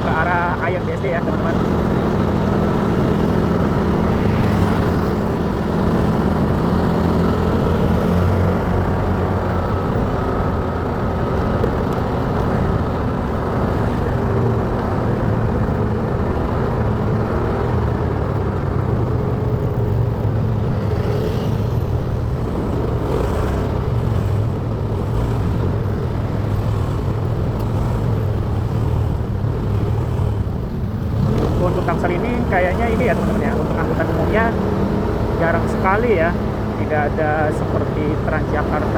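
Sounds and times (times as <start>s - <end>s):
motorcycle engine: 0.0s - 38.9s
road noise: 0.0s - 38.9s.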